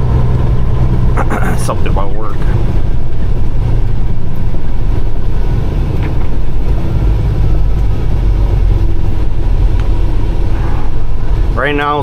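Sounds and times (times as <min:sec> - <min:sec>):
truck diesel engine and tyre noise: 0:00.0 - 0:12.0.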